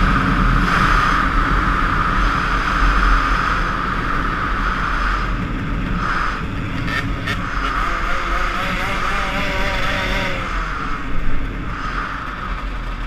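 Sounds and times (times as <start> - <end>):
motorcycle engine running: 0.0 - 13.0
wind rushing: 0.0 - 13.0.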